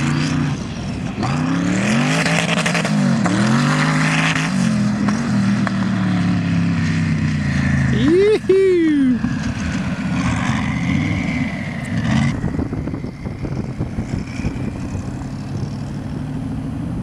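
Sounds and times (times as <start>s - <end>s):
engine under hard throttle: 0.0s - 17.0s.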